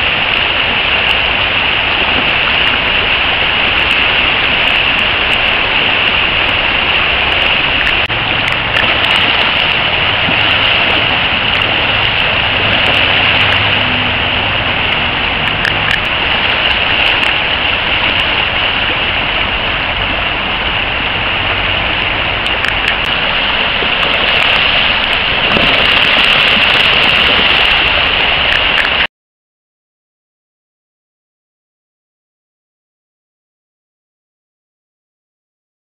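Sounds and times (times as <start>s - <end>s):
creek water rushing over rapids: 0.0s - 29.1s.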